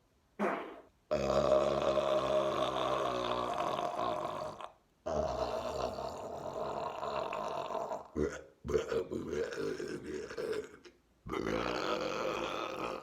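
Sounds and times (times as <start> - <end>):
long human burps: 0.5 - 13.0.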